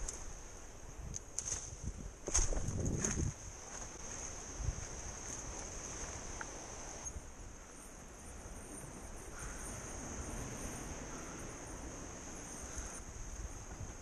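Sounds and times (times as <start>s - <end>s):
shrill insect chorus: 2.3s - 14.0s.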